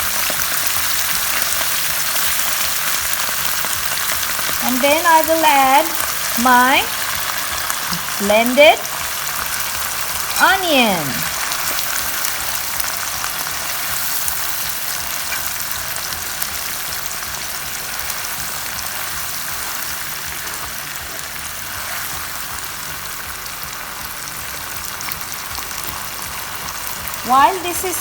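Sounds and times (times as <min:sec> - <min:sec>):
onion paste sizzling in oil: 0:00.0 - 0:28.0.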